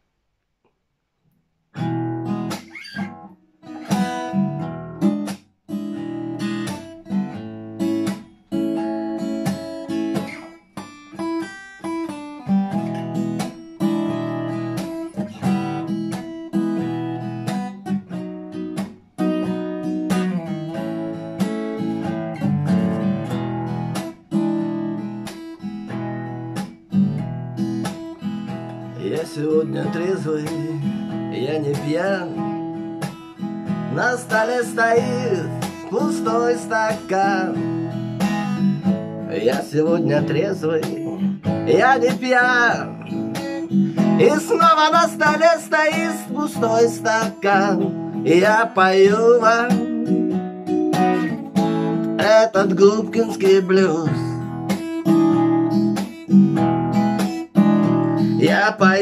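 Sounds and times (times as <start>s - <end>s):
acoustic guitar strumming: 1.8s - 59.0s.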